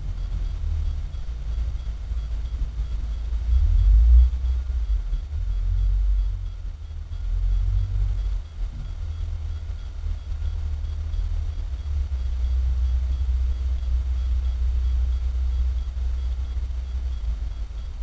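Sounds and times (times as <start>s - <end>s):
heavy machine engine rumble: 0.0s - 18.0s.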